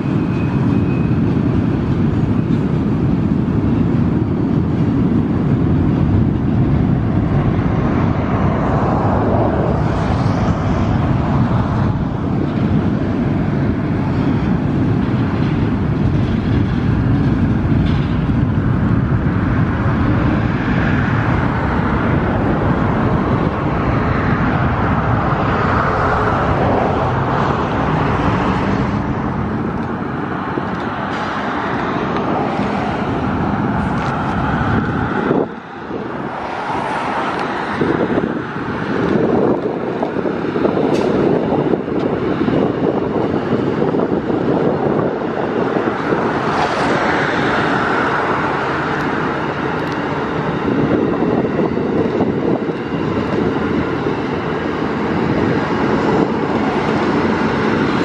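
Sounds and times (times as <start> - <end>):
freight train rumbling over bridge: 0.0 - 58.0.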